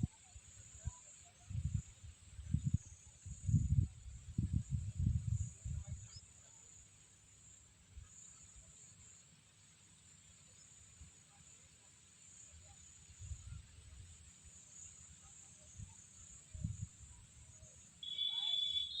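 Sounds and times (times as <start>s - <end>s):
high-pitched hiss: 0.0s - 19.0s.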